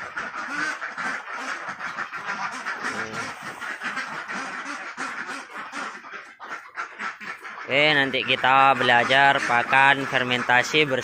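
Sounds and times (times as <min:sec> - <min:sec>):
flock of ducks quacking: 0:00.0 - 0:11.0.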